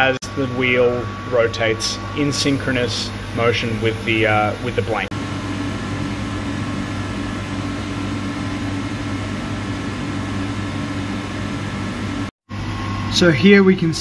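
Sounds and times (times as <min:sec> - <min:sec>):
workshop machinery hum: 0:00.0 - 0:14.0.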